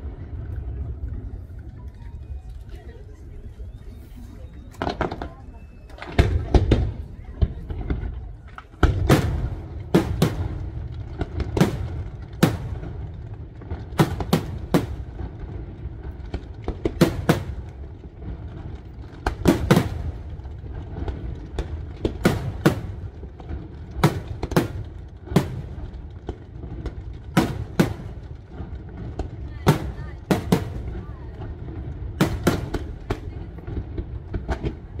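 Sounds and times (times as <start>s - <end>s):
continuous low rumble: 0.0s - 35.0s.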